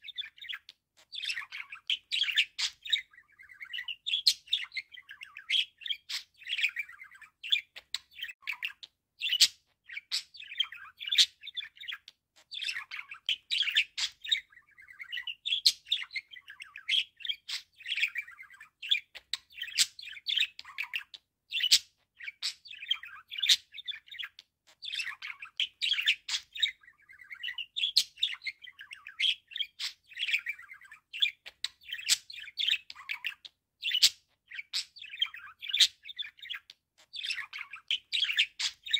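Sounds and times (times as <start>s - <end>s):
budgerigar warbling and chattering: 0.0s - 38.9s.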